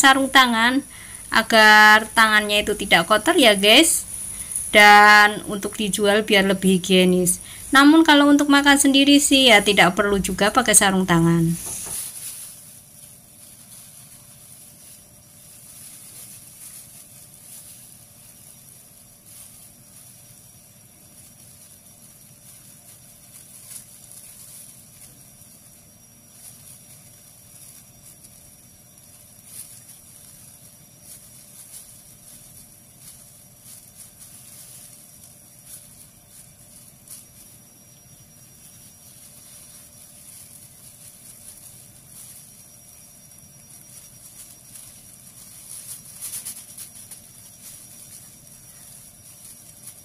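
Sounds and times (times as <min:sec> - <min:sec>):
faint steady hum: 0:00.0 - 0:50.0
plastic glove rustling: 0:00.0 - 0:50.0.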